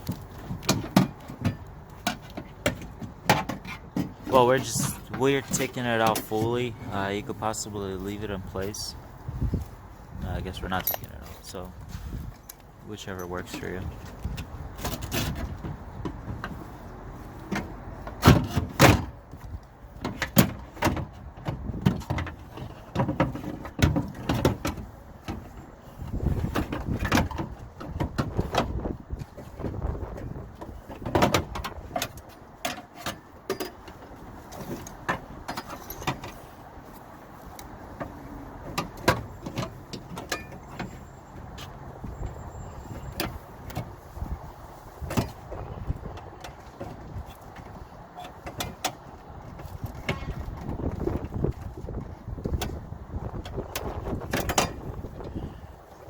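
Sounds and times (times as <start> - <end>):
metal clunks and scraping: 0.0 - 56.0.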